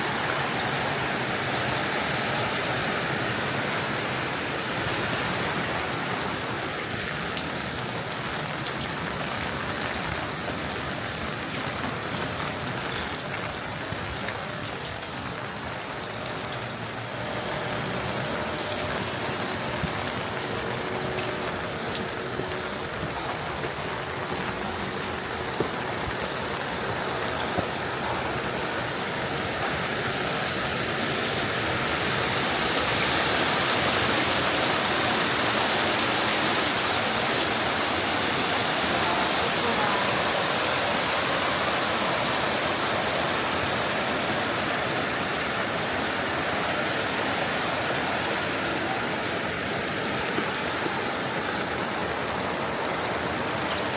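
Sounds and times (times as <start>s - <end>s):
mountain stream flowing: 0.0s - 53.9s
steady rain: 0.0s - 53.9s.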